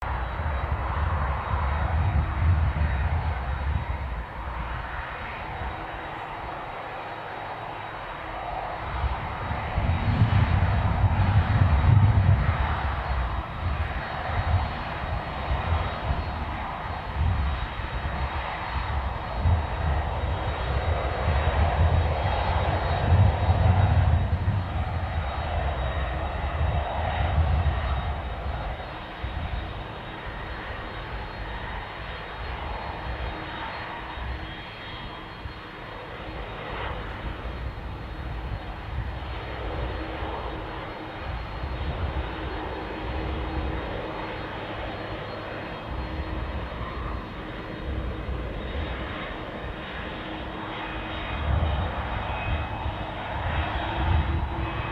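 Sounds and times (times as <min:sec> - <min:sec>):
jet engines on take-off: 0:00.0 - 0:54.9.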